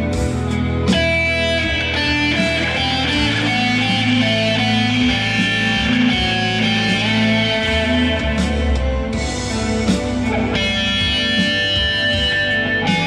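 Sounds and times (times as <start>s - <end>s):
electric guitar held notes: 0.0s - 13.0s.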